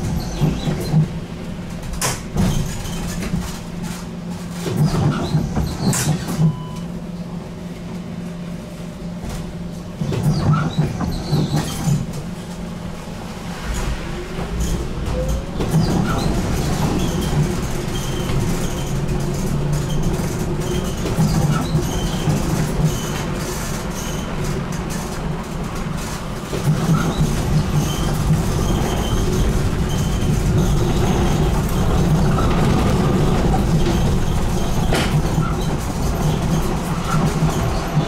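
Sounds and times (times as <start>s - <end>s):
rail clicks: 0.0s - 6.9s, 13.6s - 38.0s
tram wheels rumbling: 0.0s - 38.0s.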